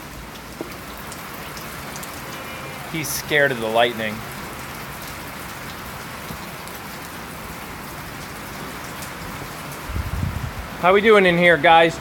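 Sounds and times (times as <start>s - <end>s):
steady rain hissing: 0.0s - 12.0s.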